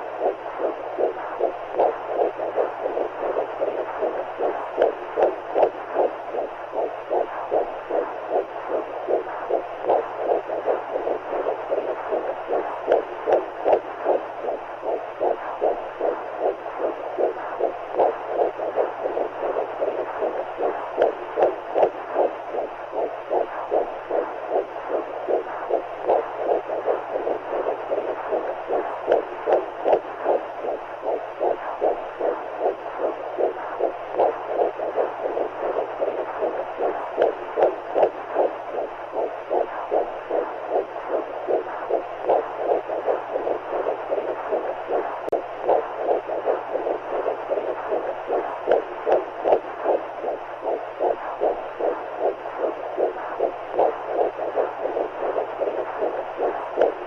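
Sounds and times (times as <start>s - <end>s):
fast heartbeat: 0.0s - 57.0s.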